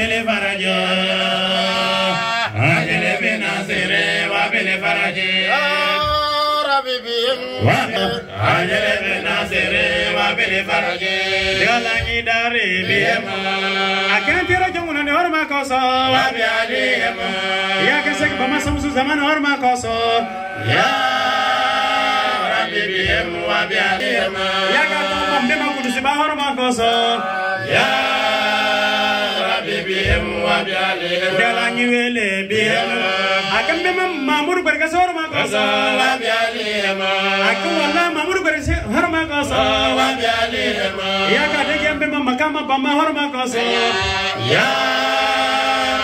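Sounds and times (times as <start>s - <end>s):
men chanting through microphones: 0.0s - 46.0s.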